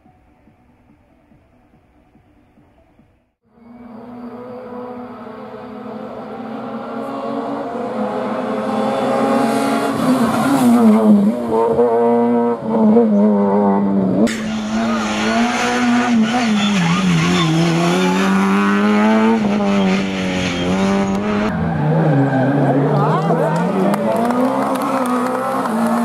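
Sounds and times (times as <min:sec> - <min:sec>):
rally car engine revving: 0:03.6 - 0:26.0.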